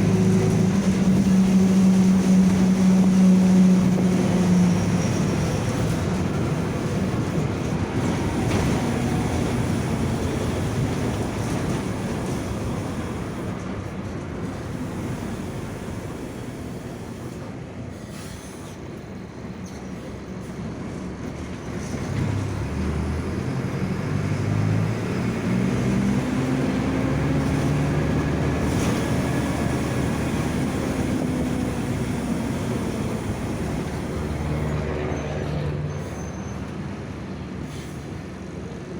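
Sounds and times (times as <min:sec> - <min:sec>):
diesel bus engine: 0:00.0 - 0:38.9.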